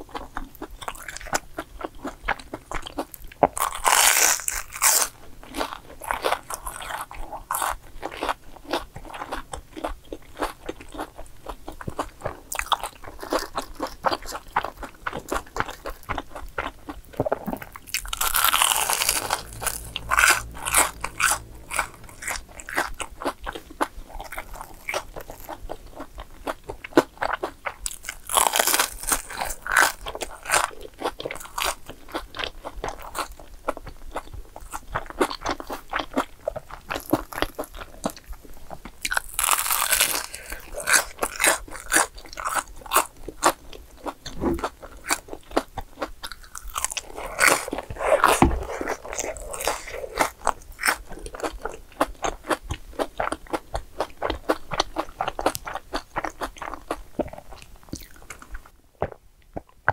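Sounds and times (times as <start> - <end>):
crunching and chewing fried food: 0.0 - 59.9.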